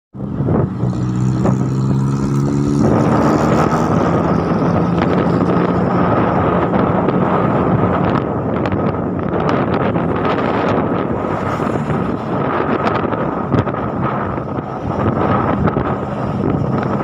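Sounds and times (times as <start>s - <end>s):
road noise: 0.1s - 17.0s
vehicle engine hum: 0.1s - 17.0s
rushing wind: 0.2s - 17.0s.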